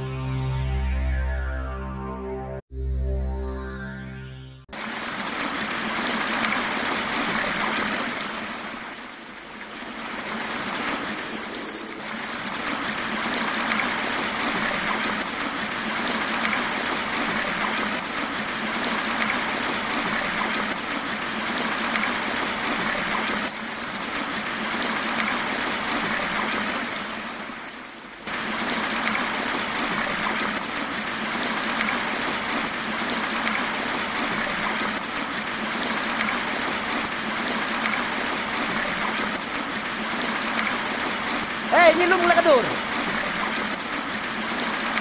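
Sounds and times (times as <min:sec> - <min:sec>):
stream pouring over rocks: 0:04.8 - 0:45.0.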